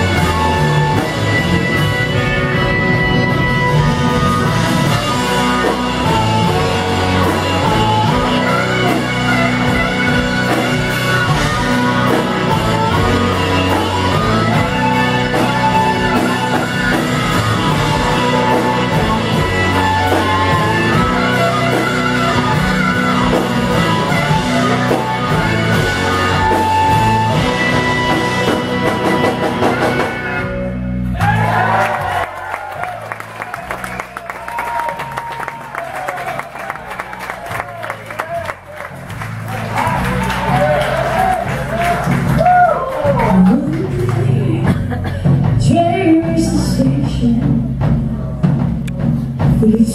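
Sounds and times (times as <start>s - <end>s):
soul rock band playing: 0.0s - 49.9s.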